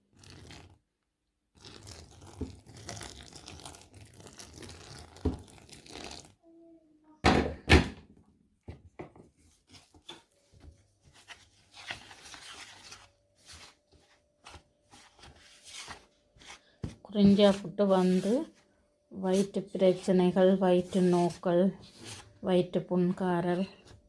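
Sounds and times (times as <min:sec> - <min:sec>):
flour stirred in a bowl: 0:00.0 - 0:00.8, 0:01.5 - 0:06.4, 0:09.3 - 0:24.0.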